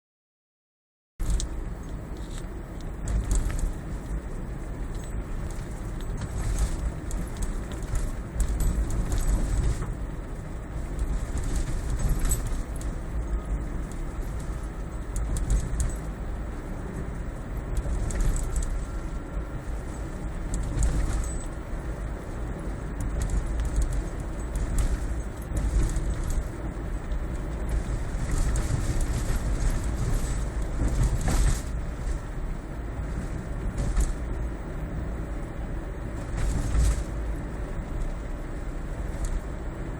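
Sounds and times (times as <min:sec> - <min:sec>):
road rumble in car: 0:01.2 - 0:39.9.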